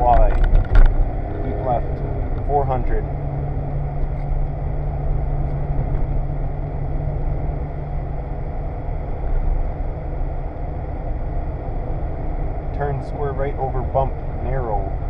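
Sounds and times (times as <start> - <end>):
car engine running: 0.0 - 15.0
tyre and road noise on wet road: 0.0 - 15.0.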